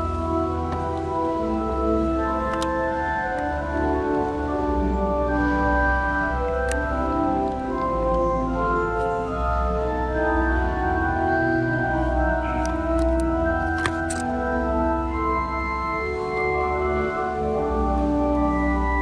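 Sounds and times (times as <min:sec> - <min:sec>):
pipe organ playing chords: 0:00.0 - 0:19.0.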